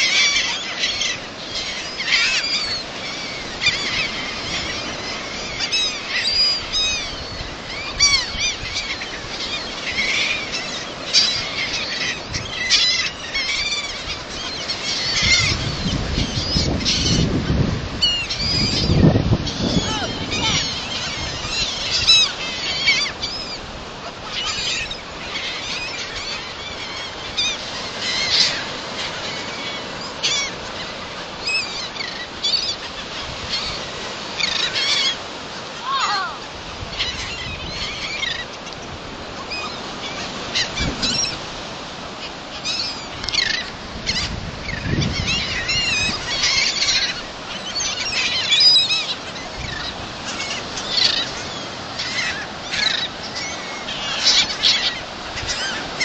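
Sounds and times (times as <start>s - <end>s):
gulls squawking: 0.0s - 56.0s.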